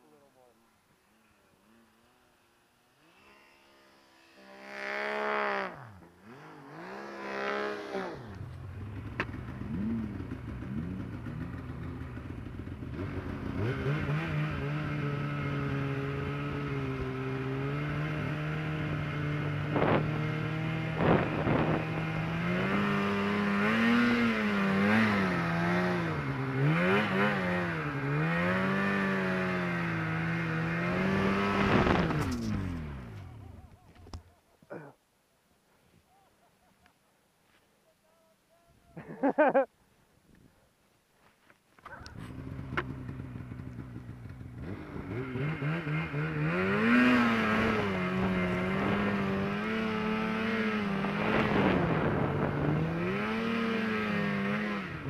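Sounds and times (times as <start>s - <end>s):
snowmobile engine revving: 0.0s - 34.9s, 41.9s - 55.0s.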